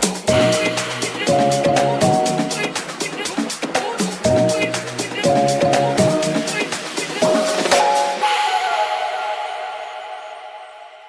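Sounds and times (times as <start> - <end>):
background music held chord: 0.0 - 11.0.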